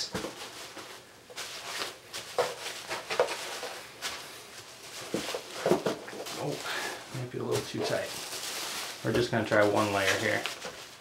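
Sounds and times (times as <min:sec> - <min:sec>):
cardboard rustling and scraping: 0:00.0 - 0:06.8, 0:07.4 - 0:11.0.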